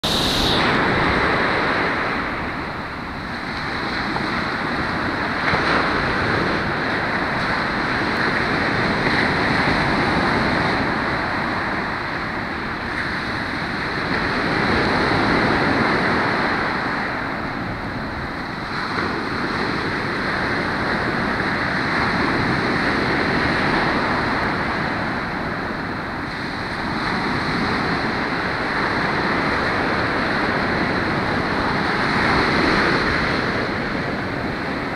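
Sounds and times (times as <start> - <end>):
ocean surf breaking on beach: 0.0 - 34.9.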